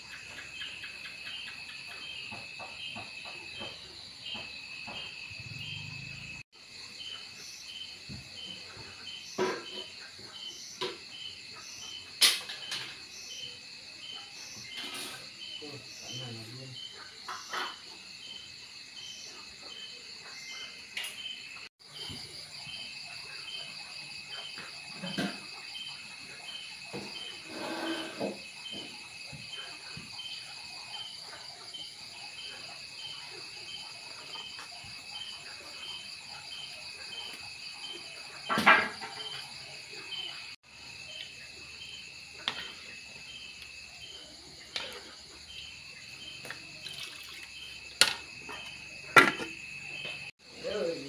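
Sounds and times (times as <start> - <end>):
night insects chirping: 0.0 - 51.0.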